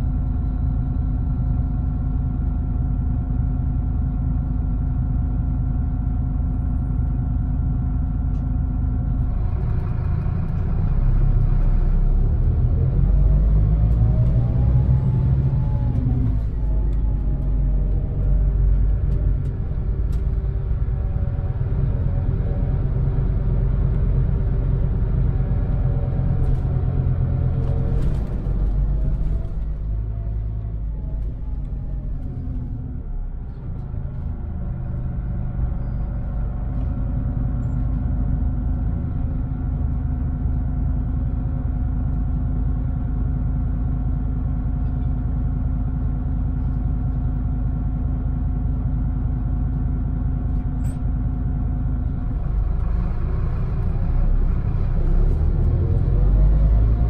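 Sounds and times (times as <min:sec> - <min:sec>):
bus engine running: 0:00.0 - 0:57.0
bus idling hum: 0:00.0 - 0:57.0.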